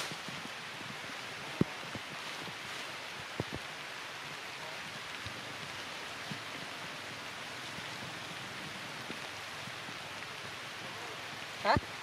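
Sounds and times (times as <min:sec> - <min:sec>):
light rain on tree foliage: 0:00.0 - 0:12.0.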